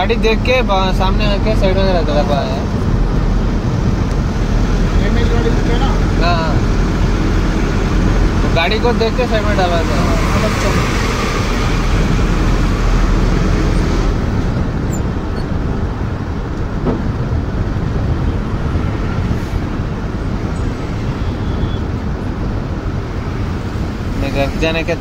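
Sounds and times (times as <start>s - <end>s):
heavy low rumble: 0.0s - 25.0s
road noise: 0.0s - 25.0s
truck engine drone: 0.0s - 25.0s.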